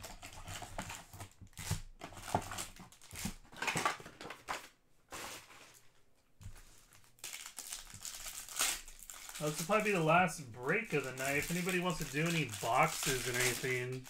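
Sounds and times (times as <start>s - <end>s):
foil card packs crinkling: 0.0s - 5.5s, 6.6s - 14.0s.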